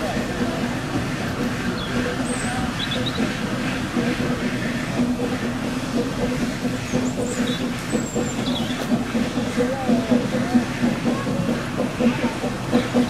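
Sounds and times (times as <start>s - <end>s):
steam locomotive hiss and rumble: 0.0s - 13.0s.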